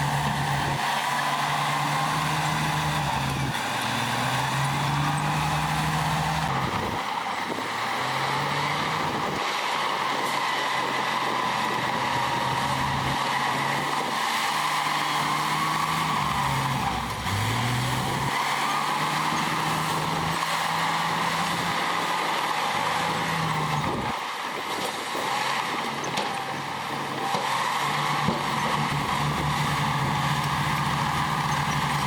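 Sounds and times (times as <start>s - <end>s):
heavy diesel engine under load: 0.0s - 32.0s.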